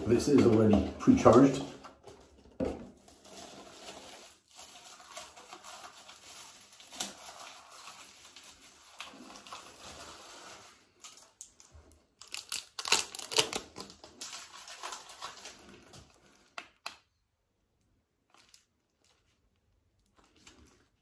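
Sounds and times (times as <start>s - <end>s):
plastic and foam packaging rustling: 0.0s - 16.9s, 18.1s - 21.0s.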